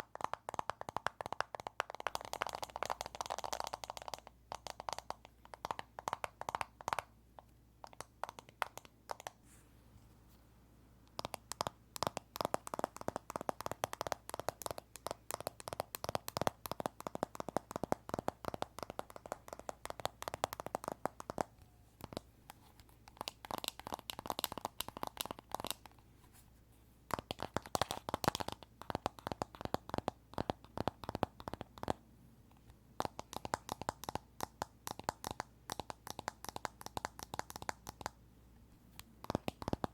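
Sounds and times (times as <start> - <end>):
fingers tapping on phone screen: 0.0 - 9.4, 11.1 - 26.0, 27.1 - 38.2, 38.9 - 39.9.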